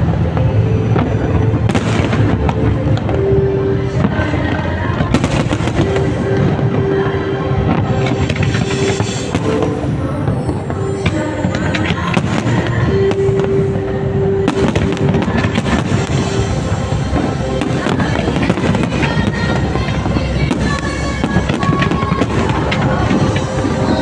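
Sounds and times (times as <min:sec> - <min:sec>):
fireworks bursting and crackling: 0:00.0 - 0:24.0
music playing: 0:00.0 - 0:24.0.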